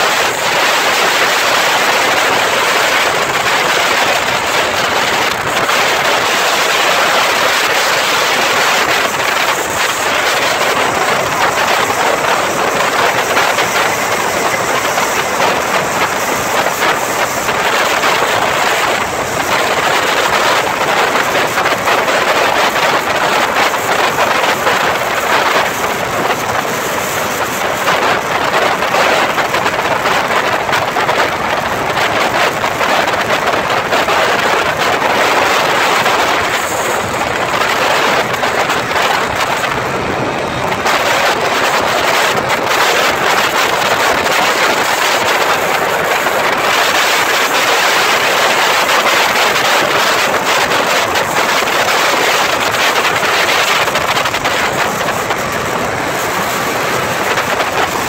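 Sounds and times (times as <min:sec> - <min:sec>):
vehicle engine and road noise: 0:00.0 - 0:58.0
wind rushing on microphone: 0:00.0 - 0:58.0.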